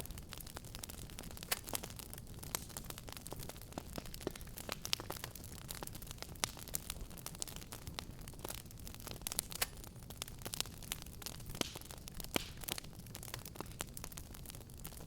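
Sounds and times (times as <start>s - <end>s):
fire crackling and popping: 0.0s - 15.0s
low rumble of burning: 0.0s - 15.0s.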